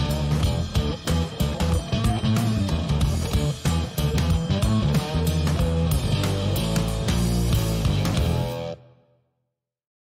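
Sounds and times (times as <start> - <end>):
rock music with guitar and bass: 0.0 - 9.0.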